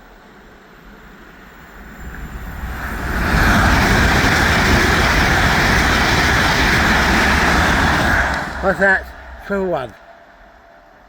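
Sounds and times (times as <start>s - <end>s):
train passing at speed: 0.0s - 11.0s.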